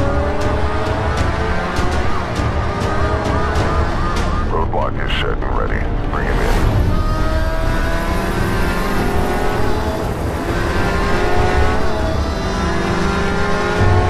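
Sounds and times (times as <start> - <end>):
sports car engines running hard: 0.0 - 14.0.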